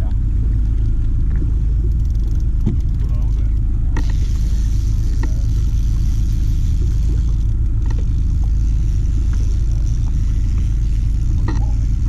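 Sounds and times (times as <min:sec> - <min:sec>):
motor rumbling: 0:00.0 - 0:12.0
faint clicks: 0:00.6 - 0:12.0.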